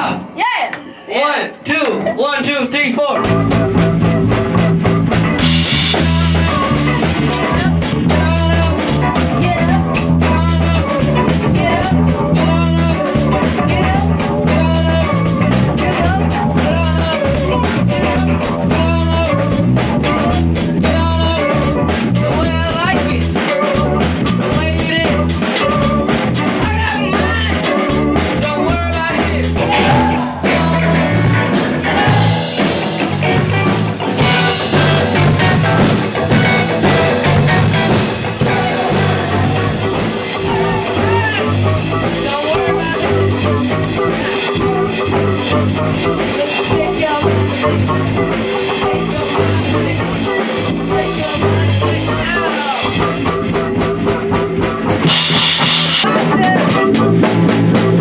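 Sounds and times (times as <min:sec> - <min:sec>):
drum kit: 0:03.1 - 0:58.0
electric guitar: 0:03.2 - 0:58.0
low bass notes: 0:03.2 - 0:58.0.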